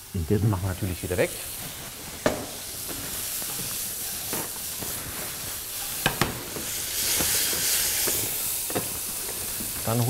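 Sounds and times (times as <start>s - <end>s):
vegetables sizzling in frying pan: 0.0s - 10.0s.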